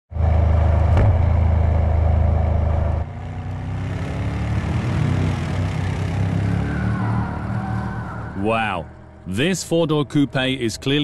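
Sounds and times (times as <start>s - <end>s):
car engine rumbling: 0.1s - 11.0s.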